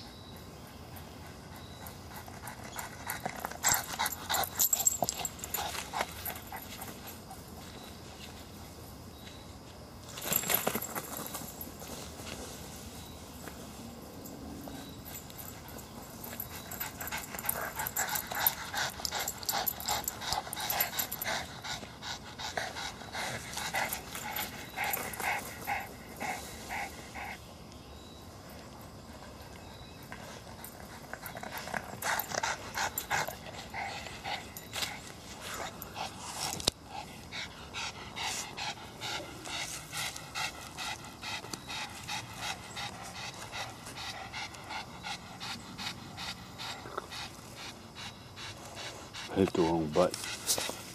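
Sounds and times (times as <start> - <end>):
dog panting: 0.0 - 7.9, 14.7 - 27.4, 30.0 - 50.9.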